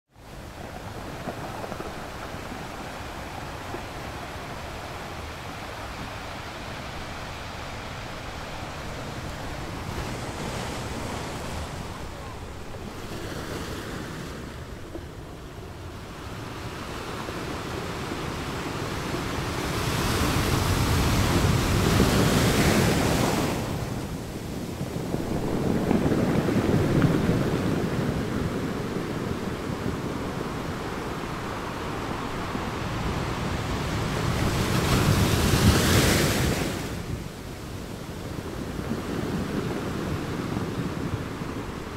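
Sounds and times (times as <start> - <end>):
ocean surf on sandy beach: 0.1 - 41.9.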